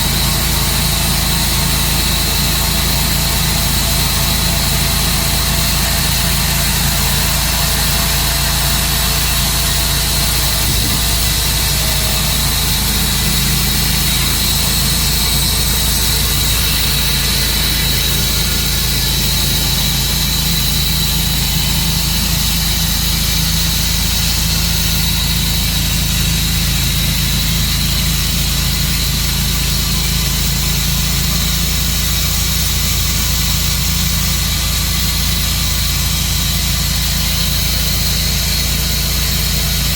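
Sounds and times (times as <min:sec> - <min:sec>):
high whine: 0:00.0 - 0:39.9
sawmill engine hum: 0:00.0 - 0:39.9.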